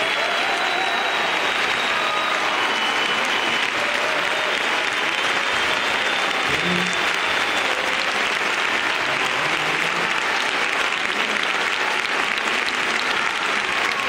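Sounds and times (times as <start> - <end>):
large audience applauding: 0.0 - 14.0.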